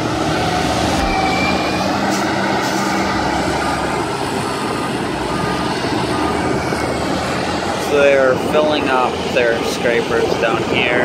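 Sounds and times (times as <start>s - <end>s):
heavy diesel engines rumbling: 0.0s - 11.0s.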